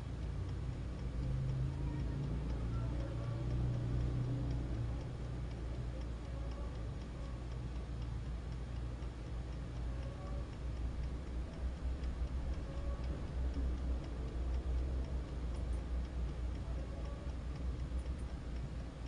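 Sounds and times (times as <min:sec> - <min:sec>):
alarm clock ticking: 0:00.0 - 0:19.0.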